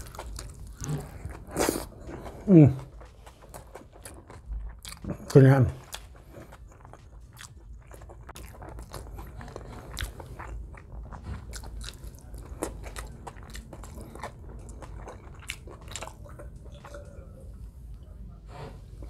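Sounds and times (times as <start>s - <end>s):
food crunching: 0.0s - 17.4s
man chewing with mouth open: 0.0s - 19.0s.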